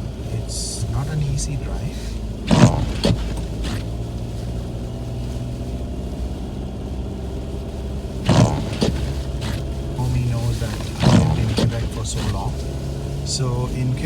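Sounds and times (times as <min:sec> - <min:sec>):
car driving interior drone: 0:00.0 - 0:14.0.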